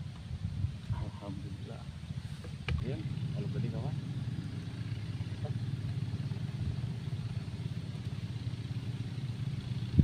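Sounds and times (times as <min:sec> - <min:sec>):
low engine drone: 0:00.0 - 0:10.0.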